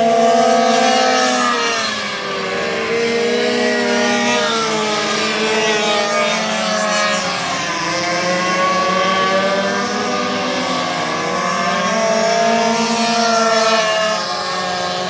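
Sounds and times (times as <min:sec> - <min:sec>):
minibike engines revving high: 0:00.0 - 0:15.0.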